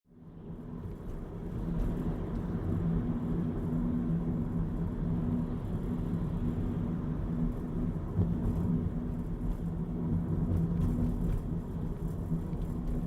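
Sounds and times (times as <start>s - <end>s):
vehicle engine rumble: 0.1s - 13.0s
low droning hum: 0.2s - 13.0s.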